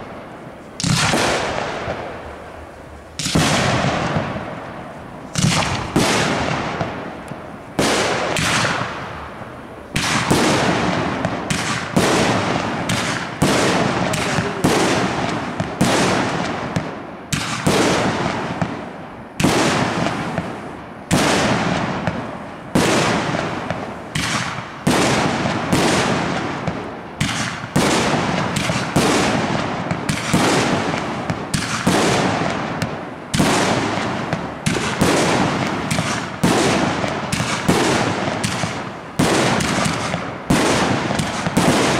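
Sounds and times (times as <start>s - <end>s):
firework shells bursting: 0.0s - 41.9s.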